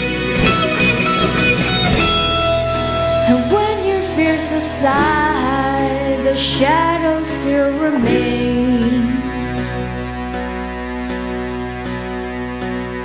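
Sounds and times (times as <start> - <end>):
band backing: 0.0 - 13.0
electric guitar solo: 0.0 - 13.0.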